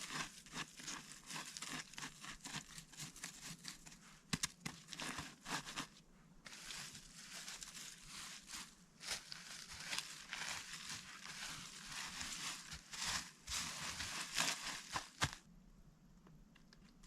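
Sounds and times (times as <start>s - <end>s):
rustling and crunching: 0.0s - 15.5s.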